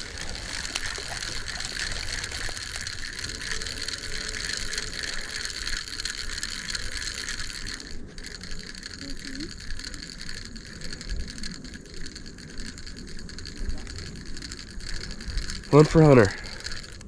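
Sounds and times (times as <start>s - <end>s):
fishing reel whirring and clicking: 0.0s - 17.0s.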